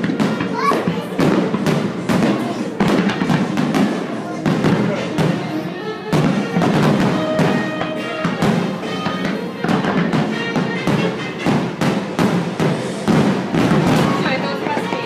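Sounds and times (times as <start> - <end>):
fireworks banging and crackling: 0.0 - 15.0
music playing: 0.0 - 15.0.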